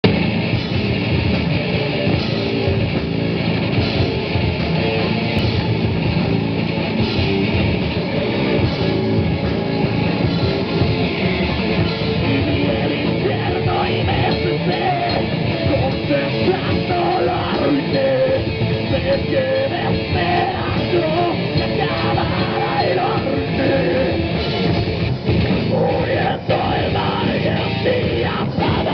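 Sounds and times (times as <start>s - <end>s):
heavy rock music: 0.0s - 28.9s.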